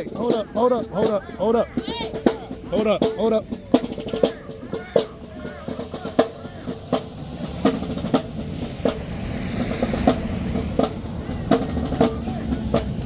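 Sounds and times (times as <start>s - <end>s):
bass drums: 0.0s - 13.0s
marching drumline playing: 0.0s - 13.0s.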